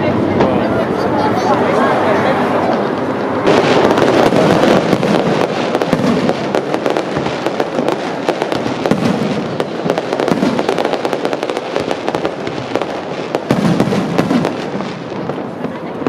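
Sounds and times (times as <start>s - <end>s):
fireworks bangs and crackles: 0.0s - 1.4s, 2.0s - 16.0s.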